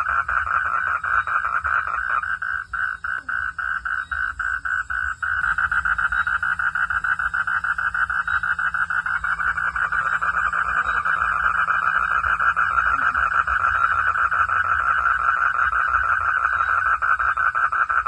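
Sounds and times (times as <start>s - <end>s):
frogs calling in chorus: 0.0s - 18.0s.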